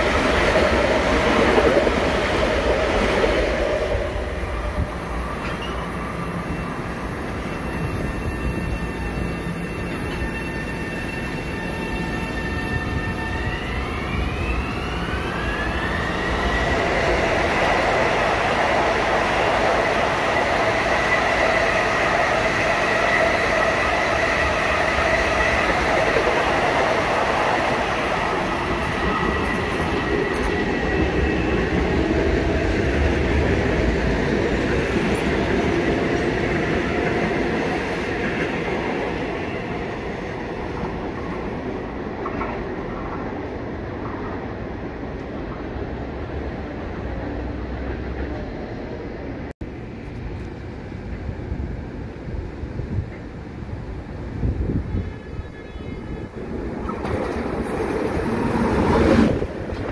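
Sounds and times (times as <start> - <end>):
electric trains running past: 0.0 - 59.9
rail and wheel noise: 0.0 - 59.9.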